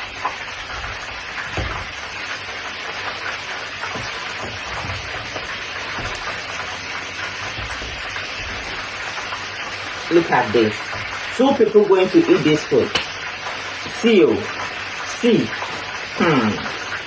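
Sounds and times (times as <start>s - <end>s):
food sizzling on stove: 0.0s - 17.0s.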